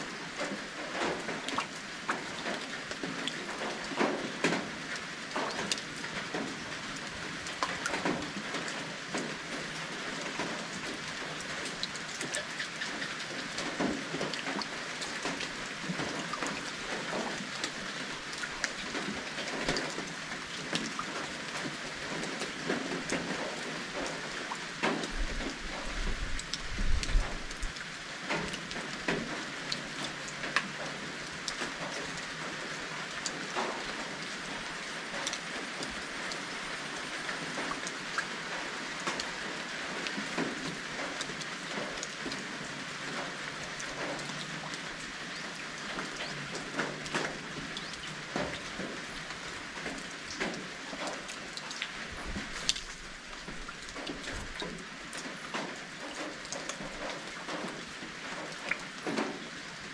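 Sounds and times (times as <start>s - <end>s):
raindrops landing close by: 0.0s - 59.9s
steady rain falling: 0.0s - 59.9s.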